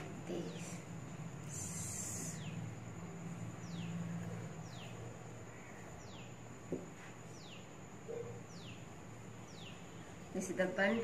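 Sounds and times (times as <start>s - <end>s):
bird chirping: 0.0s - 11.0s
low steady hum: 0.0s - 11.0s.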